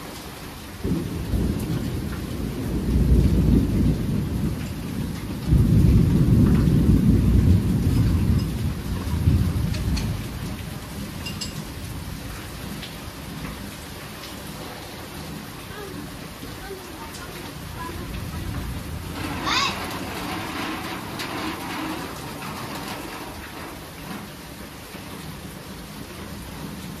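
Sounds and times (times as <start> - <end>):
steady rain hissing: 0.0 - 27.0
thunder rumbling: 0.8 - 14.1, 15.1 - 24.4.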